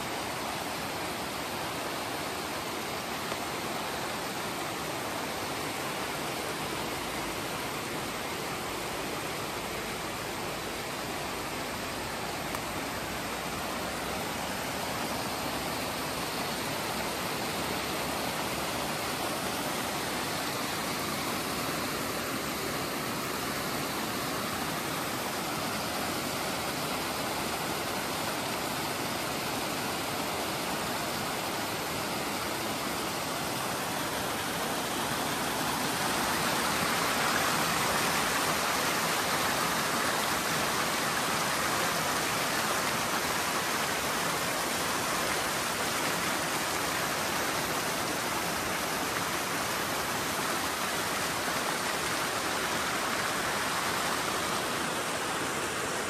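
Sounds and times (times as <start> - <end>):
water rushing down a stream: 0.0 - 56.0.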